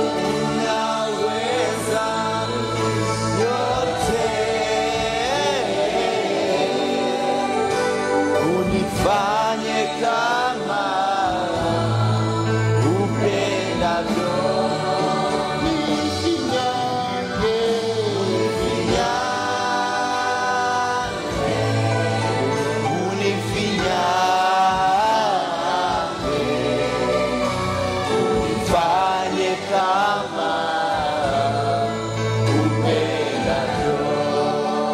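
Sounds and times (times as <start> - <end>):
choir singing a hymn: 0.0 - 34.9
instrumental backing: 0.0 - 34.9.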